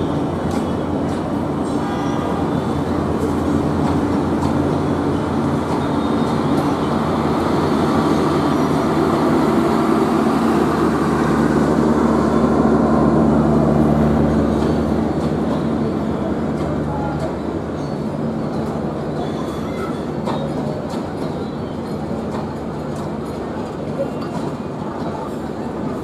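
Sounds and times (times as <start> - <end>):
train wheel clacks: 0.0 - 26.0
train wheels rumbling on rails: 0.0 - 26.0.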